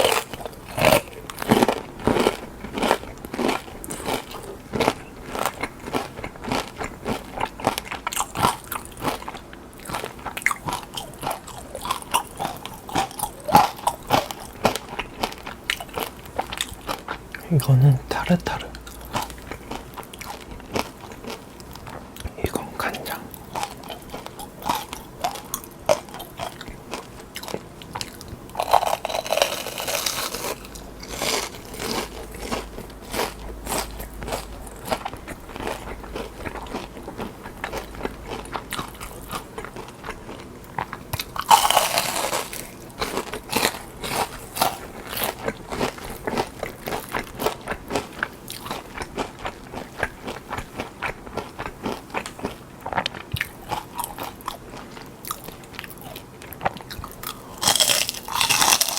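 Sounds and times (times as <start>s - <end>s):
crunchy eating and chewing: 0.0s - 58.9s.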